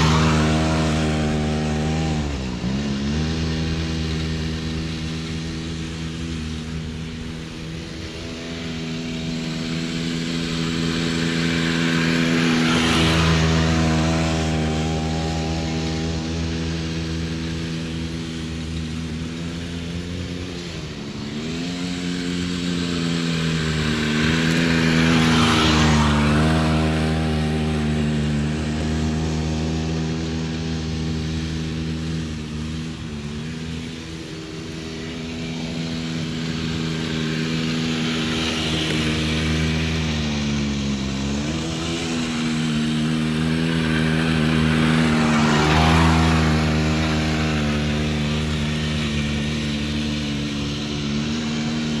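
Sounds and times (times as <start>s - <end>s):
two-stroke quad engine: 0.0s - 52.0s.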